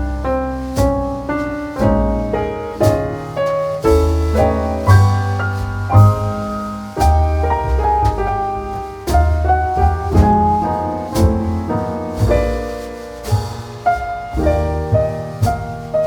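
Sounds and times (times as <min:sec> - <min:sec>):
bass line: 0:00.0 - 0:16.0
piano: 0:00.0 - 0:16.0
percussive hits: 0:02.8 - 0:16.0.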